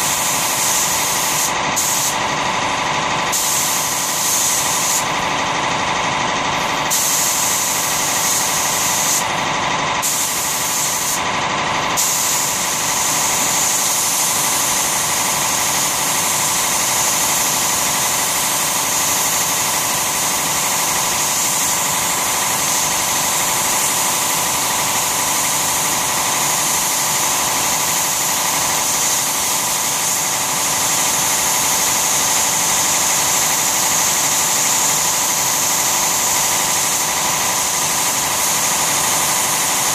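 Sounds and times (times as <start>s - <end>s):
spray gun hissing: 0.0s - 5.6s, 6.6s - 39.9s
air compressor humming: 0.0s - 39.9s.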